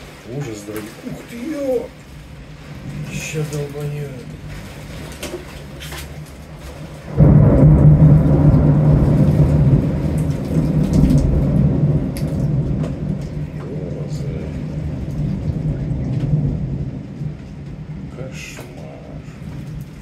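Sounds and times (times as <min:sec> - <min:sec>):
rain falling: 0:00.0 - 0:20.0
thunderclap rumbling: 0:00.0 - 0:20.0.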